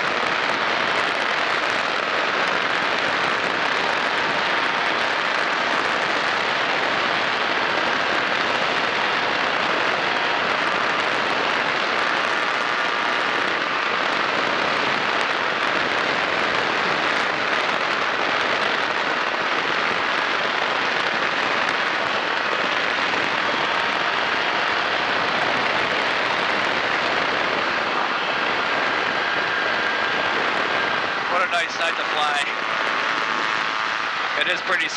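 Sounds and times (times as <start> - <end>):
aircraft engine and propeller drone: 0.0 - 34.9
rushing wind noise: 0.0 - 34.9.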